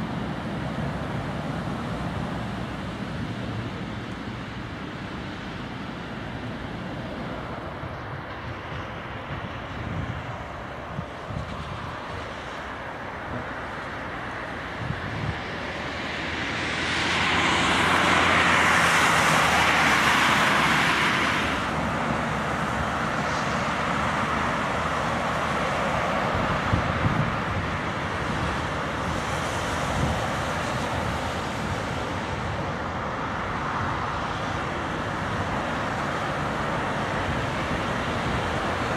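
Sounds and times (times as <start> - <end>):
car passing with tyres hissing: 0.0 - 38.9
road traffic rumble: 0.0 - 38.9.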